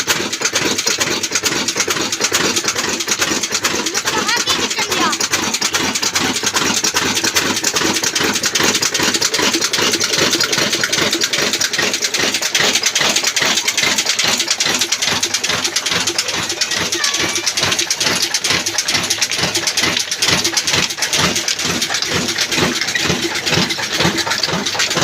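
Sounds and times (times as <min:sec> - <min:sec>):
diesel engine knocking steadily: 0:00.0 - 0:25.0.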